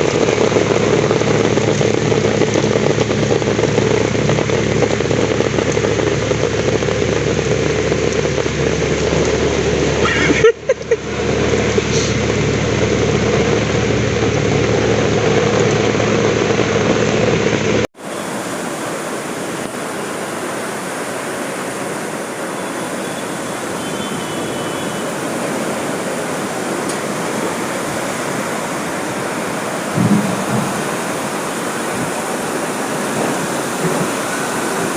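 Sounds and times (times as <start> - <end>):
running water: 0.0 - 17.3, 18.0 - 34.9
heavy rain: 0.0 - 34.9.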